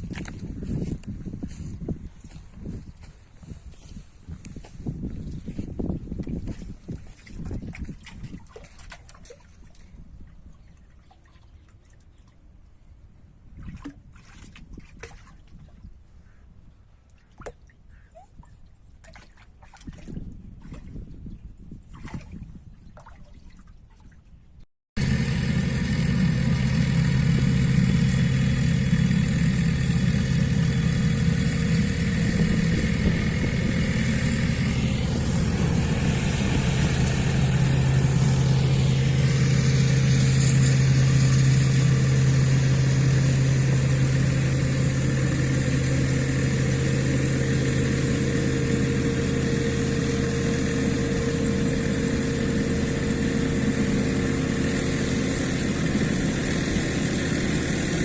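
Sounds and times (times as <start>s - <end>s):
engine humming steadily: 0.0s - 14.0s, 25.0s - 58.0s.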